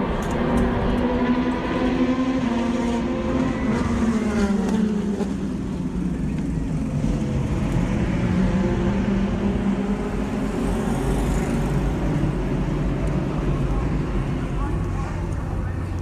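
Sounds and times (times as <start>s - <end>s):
race car engines at speed: 0.0s - 16.0s.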